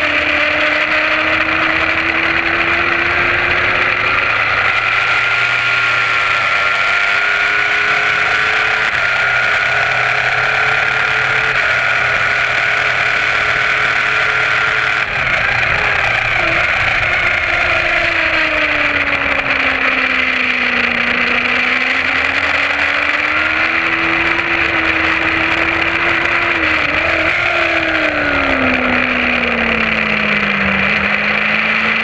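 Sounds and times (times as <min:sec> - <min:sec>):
motorcycle engine at high revs: 0:00.0 - 0:32.0.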